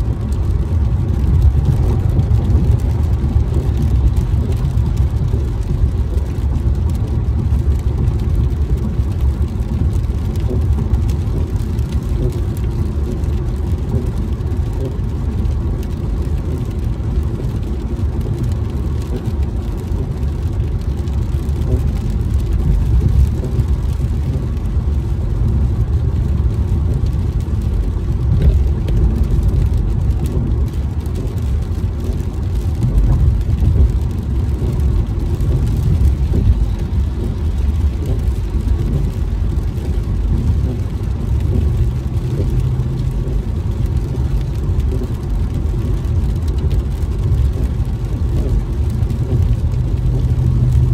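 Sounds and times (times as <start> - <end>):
road noise inside car: 0.0 - 50.9.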